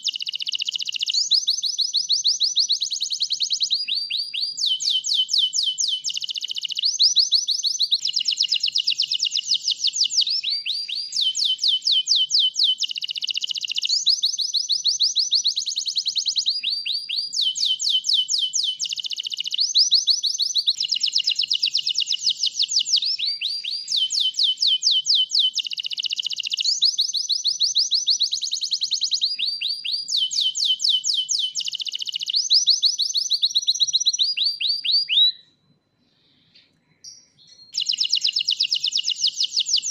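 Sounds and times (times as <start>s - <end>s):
canary singing trills: 0.0s - 35.4s, 37.0s - 39.9s.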